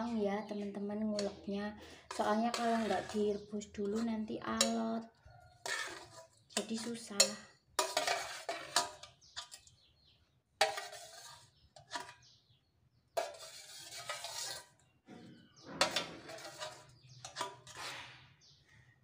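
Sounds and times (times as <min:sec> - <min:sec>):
metal spoon scraping a saucepan: 0:00.0 - 0:12.5, 0:13.1 - 0:18.2.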